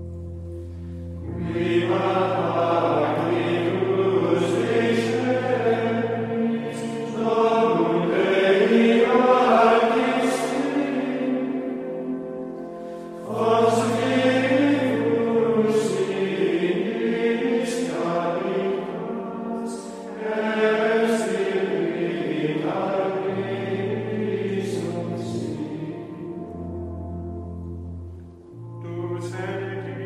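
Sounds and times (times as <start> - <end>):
choir chanting: 1.2 - 27.1.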